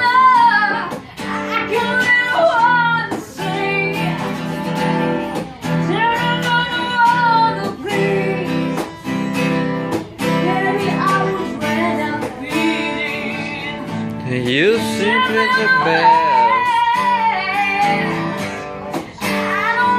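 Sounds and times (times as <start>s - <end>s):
person singing: 0.0s - 19.9s
strummed acoustic guitar: 0.0s - 19.9s.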